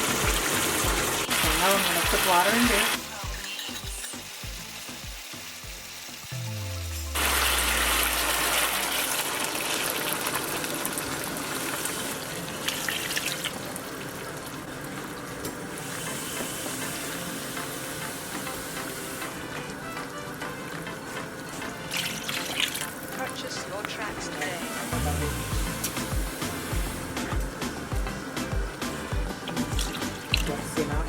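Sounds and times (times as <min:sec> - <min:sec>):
water pouring into a pot: 0:00.0 - 0:23.5, 0:28.7 - 0:31.0.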